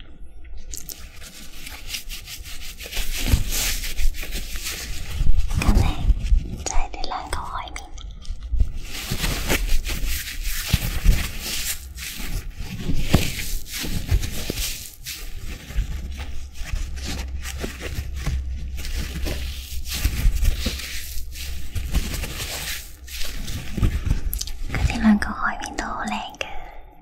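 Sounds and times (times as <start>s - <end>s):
sponges squeezed and rubbed: 0.8s - 26.2s.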